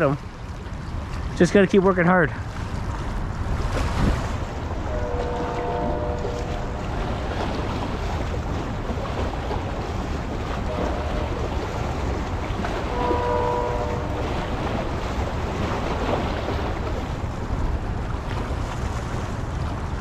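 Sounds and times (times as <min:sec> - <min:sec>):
river water washing shore: 0:00.0 - 0:20.0
wind buffeting microphone: 0:00.0 - 0:20.0.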